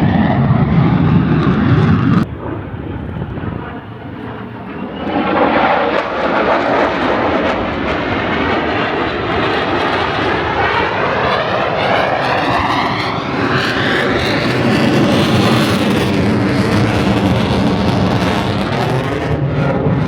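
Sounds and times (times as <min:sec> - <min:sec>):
airplane flying past: 0:00.0 - 0:20.0.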